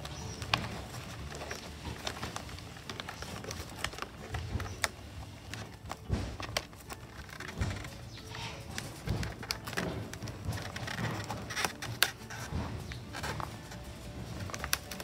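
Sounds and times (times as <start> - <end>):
hands handling wires clicks: 0.0 - 15.0.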